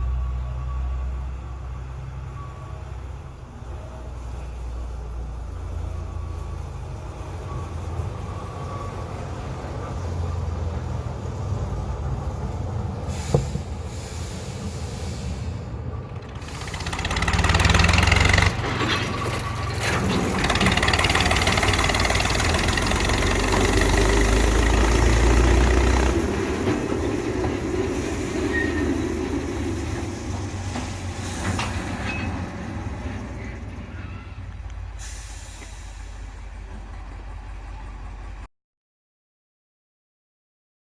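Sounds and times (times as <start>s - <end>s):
train engine rumble: 0.0s - 38.5s.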